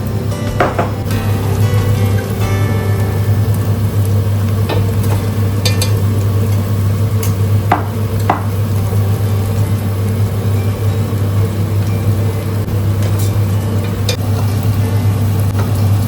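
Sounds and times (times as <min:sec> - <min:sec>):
steady low hum: 0:00.0 - 0:15.6
food frying in a pan: 0:00.0 - 0:16.0.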